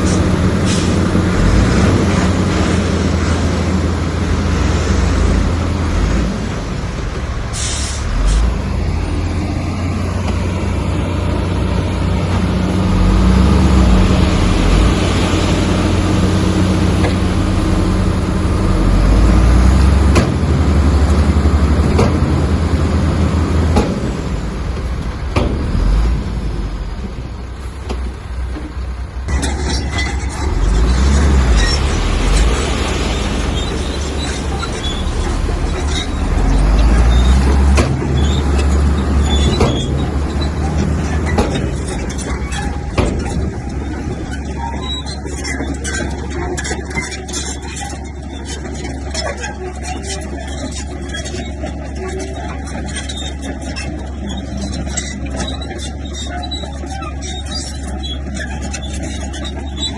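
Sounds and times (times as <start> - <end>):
diesel machinery engine droning: 0.0 - 59.9.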